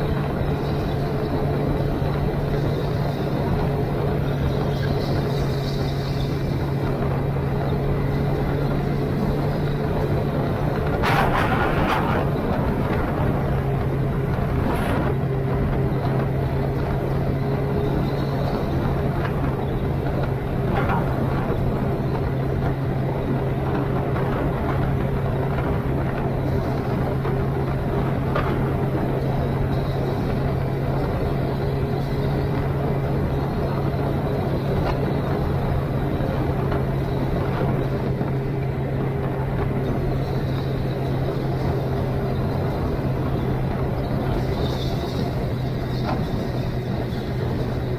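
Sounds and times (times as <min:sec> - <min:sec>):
motorcycle engine cruising: 0:00.0 - 0:47.9
wind noise: 0:00.0 - 0:47.9.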